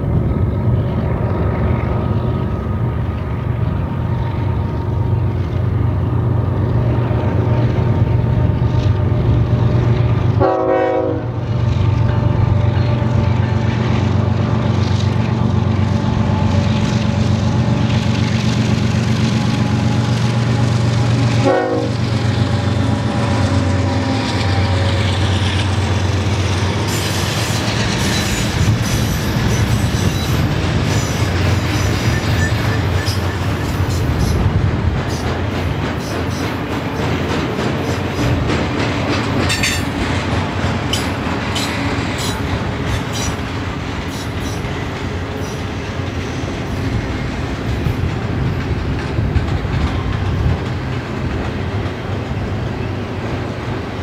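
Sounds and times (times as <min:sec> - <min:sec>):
diesel locomotive engines under load: 0:00.0 - 0:54.0
train wheel clatter and rumble: 0:00.0 - 0:54.0.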